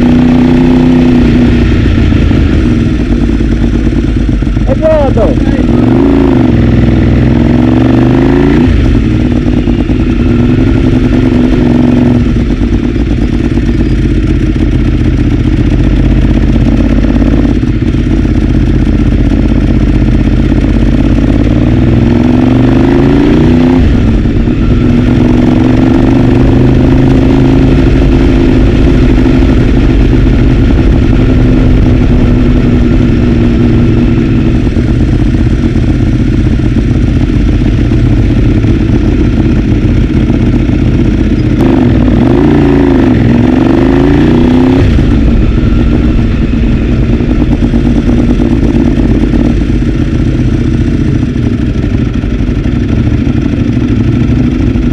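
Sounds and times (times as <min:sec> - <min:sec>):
racing motorcycle engine: 0:00.0 - 0:54.9.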